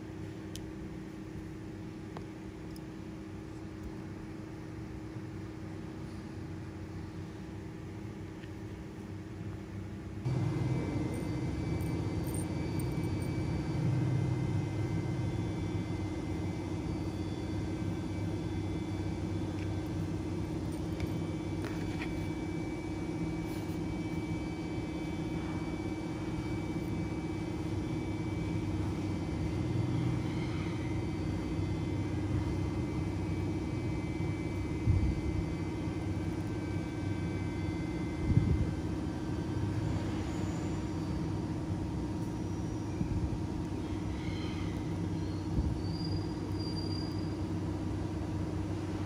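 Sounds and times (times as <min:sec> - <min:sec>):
low mechanical rumble and hum: 0:00.0 - 0:49.0.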